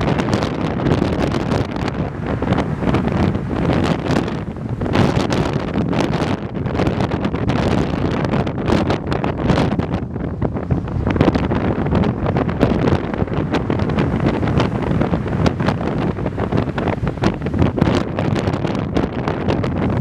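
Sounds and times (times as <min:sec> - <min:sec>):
waves washing onto shingle: 0:00.0 - 0:09.8, 0:10.4 - 0:20.0
wind buffeting microphone: 0:00.0 - 0:20.0.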